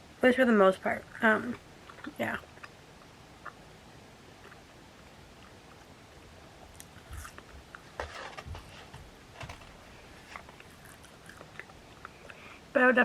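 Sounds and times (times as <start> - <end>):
person chewing food: 1.1 - 12.5.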